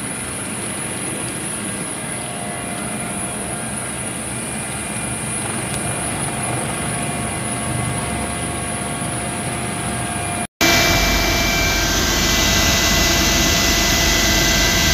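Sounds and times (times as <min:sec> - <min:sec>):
helicopter engine and rotor noise: 0:00.0 - 0:14.9
steady whine: 0:00.0 - 0:14.9.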